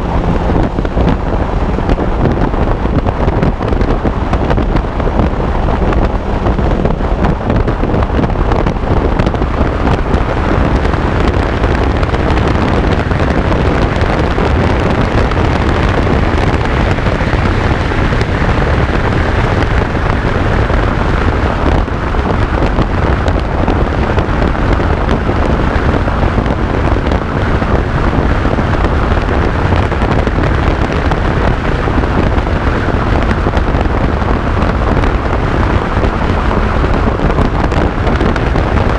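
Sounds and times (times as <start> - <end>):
motorcycle engine: 0.0 - 38.9
road noise: 0.0 - 38.9
wind rushing over microphone: 0.0 - 38.9.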